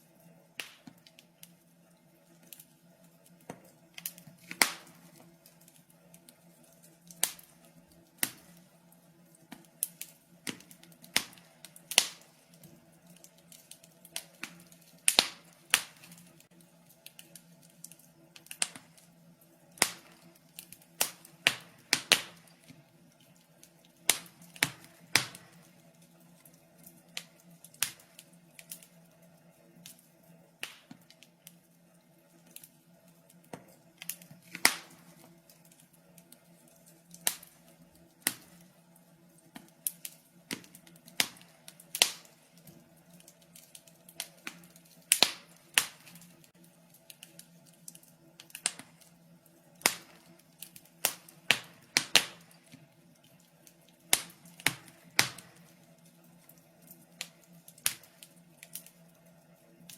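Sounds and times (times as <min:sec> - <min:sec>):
faint steady hum: 0:00.0 - 0:59.9
wood fire crackling: 0:00.0 - 0:59.9.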